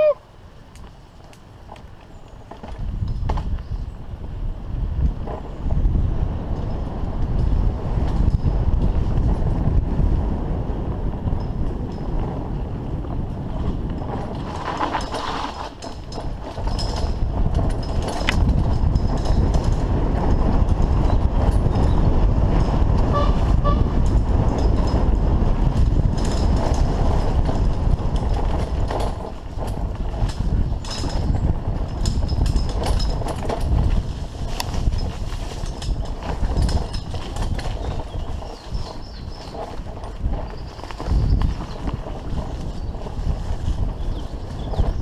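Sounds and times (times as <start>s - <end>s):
wind rumble on microphone: 0.0s - 45.0s
mountain bike rattling: 0.6s - 45.0s.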